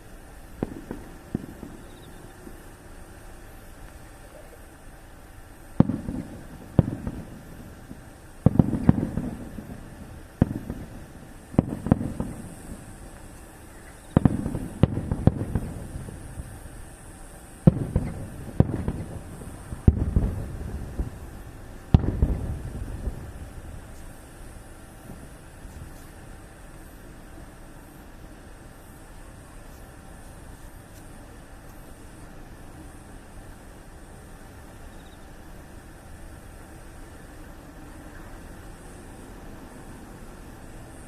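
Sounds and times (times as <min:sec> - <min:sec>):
fireworks booming: 0:00.0 - 0:35.0.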